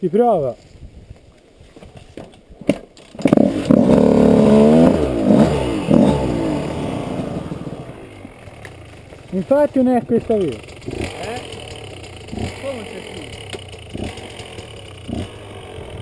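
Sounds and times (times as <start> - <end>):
motorcycle engine revving: 3.1 - 16.0.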